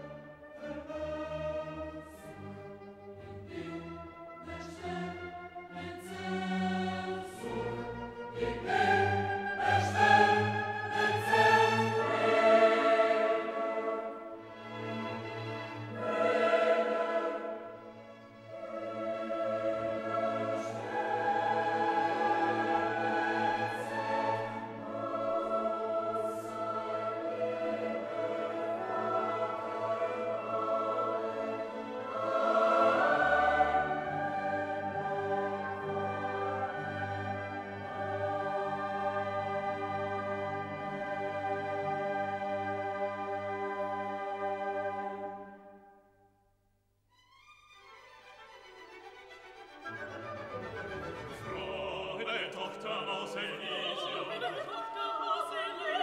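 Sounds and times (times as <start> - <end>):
orchestral accompaniment: 0.0 - 45.9, 47.1 - 56.0
choir singing long notes: 0.0 - 46.2, 49.7 - 56.0.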